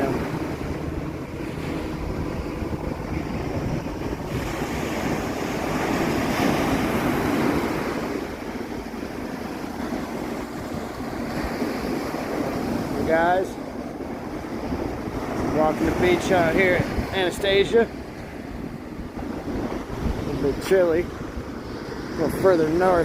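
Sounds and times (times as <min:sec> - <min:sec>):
ocean surf washing up beach: 0:00.0 - 0:23.0
wind buffeting microphone: 0:00.0 - 0:23.0.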